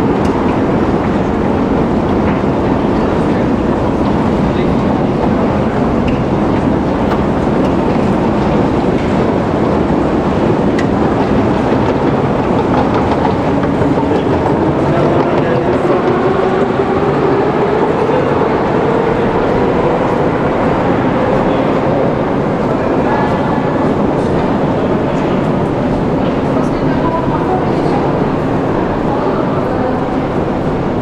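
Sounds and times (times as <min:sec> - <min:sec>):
metro train rumbling: 0:00.0 - 0:31.0.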